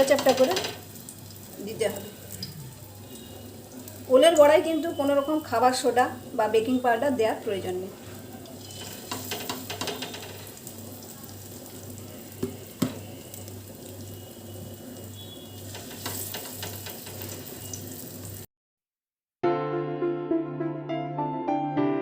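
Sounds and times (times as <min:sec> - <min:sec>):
food sizzling in oil: 0:00.0 - 0:18.5.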